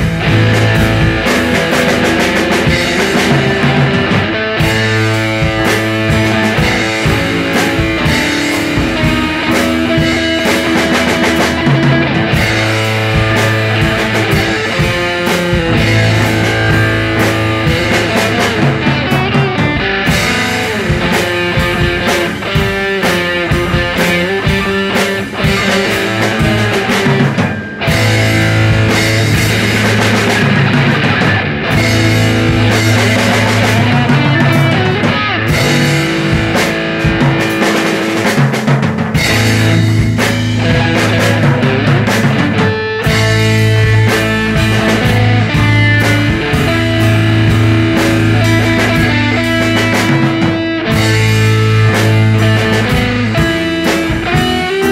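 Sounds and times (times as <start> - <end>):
bass line: 0.0 - 54.9
drum kit: 0.0 - 54.9
electric guitar: 0.0 - 54.9.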